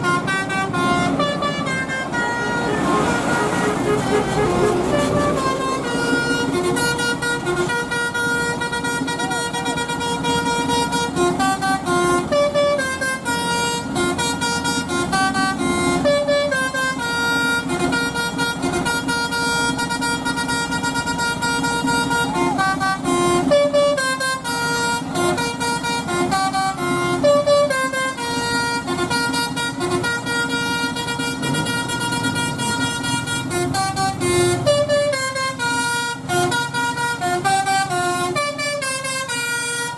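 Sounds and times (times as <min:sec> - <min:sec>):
musical bus air horns playing tune: 0:00.0 - 0:39.9.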